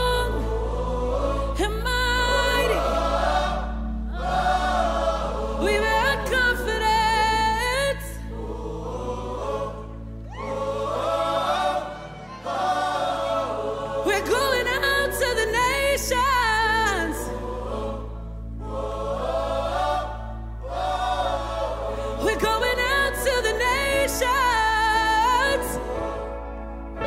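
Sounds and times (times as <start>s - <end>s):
choir singing worship song: 0.0s - 27.0s.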